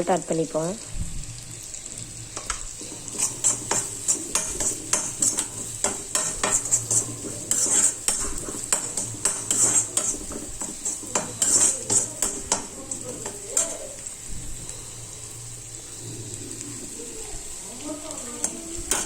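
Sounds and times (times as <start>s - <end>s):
onions frying in oil: 0.0s - 19.0s
utensil scraping a pan: 2.2s - 17.0s, 17.9s - 19.0s.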